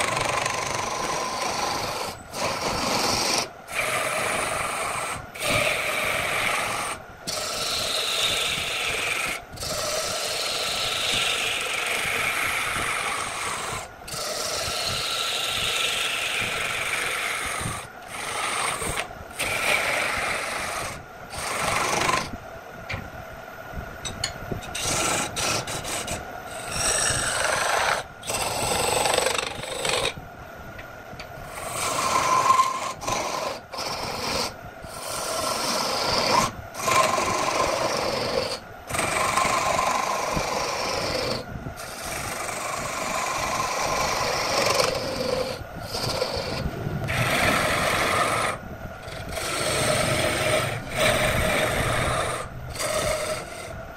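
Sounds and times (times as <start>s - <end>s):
lathe tool scraping wood: 0.0s - 22.4s, 24.6s - 30.2s, 31.4s - 53.8s.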